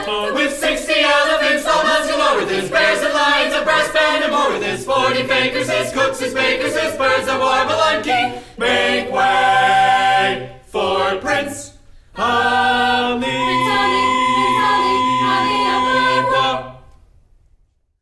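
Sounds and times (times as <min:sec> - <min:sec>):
a cappella choir singing: 0:00.0 - 0:17.0.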